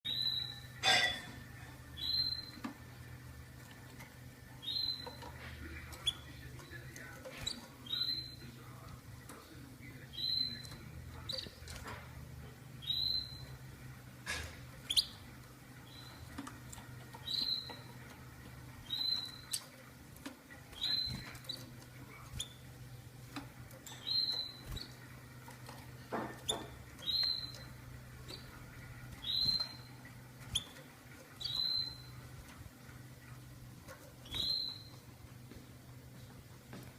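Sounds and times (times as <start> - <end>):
canary peeping: 0.0 - 36.9
faint low hum: 0.1 - 36.9.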